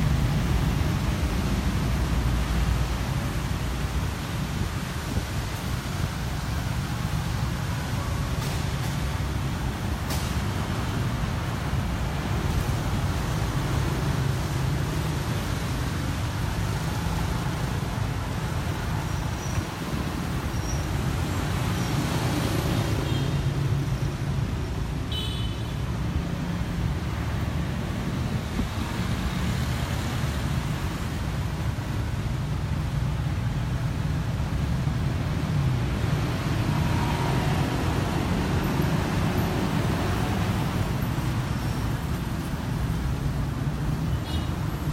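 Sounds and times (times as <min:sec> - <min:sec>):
traffic rumble: 0:00.0 - 0:44.9.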